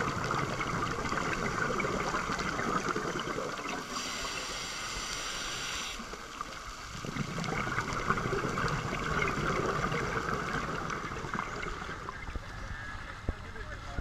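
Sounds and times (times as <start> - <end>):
underwater bubbles gurgling: 0.0 - 14.0.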